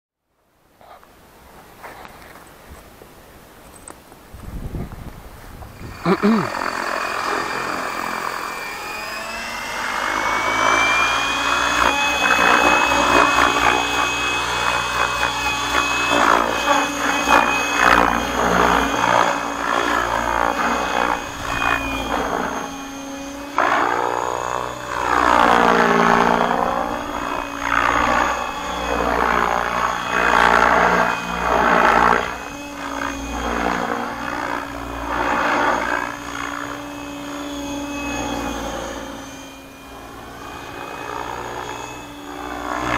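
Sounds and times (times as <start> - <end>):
rc helicopter rotor whining: 3.7 - 42.9.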